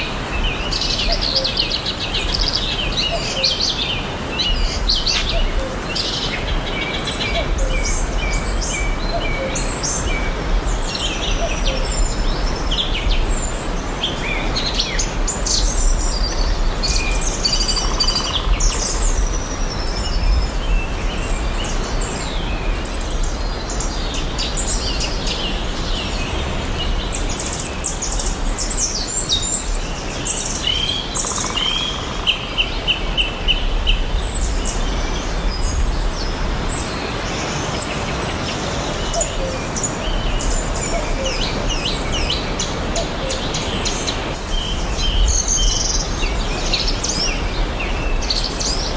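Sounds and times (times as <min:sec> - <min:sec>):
wild birds chirping and singing: 0:00.0 - 0:48.9.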